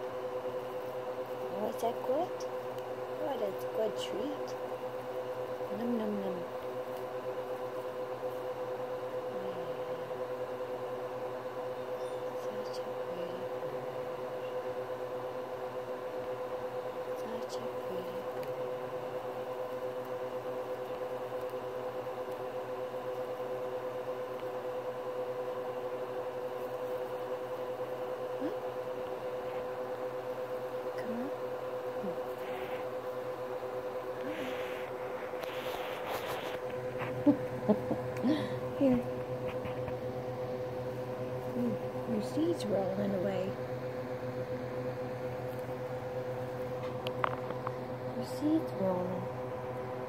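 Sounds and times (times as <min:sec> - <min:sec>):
steady machine hum: 0:00.0 - 0:50.0.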